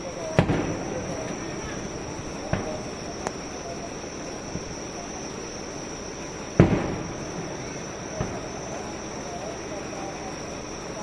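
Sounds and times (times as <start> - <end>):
fireworks bursting: 0.0 - 11.0
insect chirring: 0.0 - 11.0.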